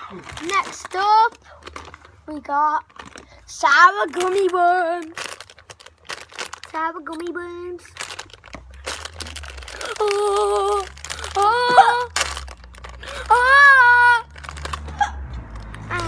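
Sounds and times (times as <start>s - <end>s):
plastic packet crinkling: 0.0s - 16.0s.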